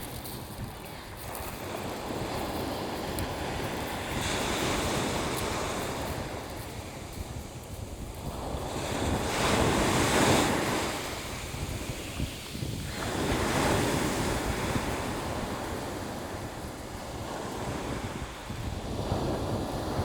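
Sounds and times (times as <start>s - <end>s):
wind rumbling on microphone: 0.0s - 20.0s
sea waves breaking on shore: 1.0s - 20.0s.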